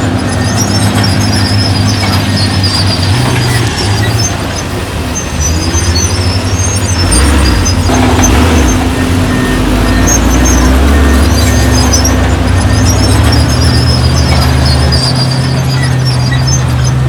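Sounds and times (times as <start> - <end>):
heavy diesel engine under load: 0.0 - 17.0
high-pitched squeaks: 0.0 - 17.0.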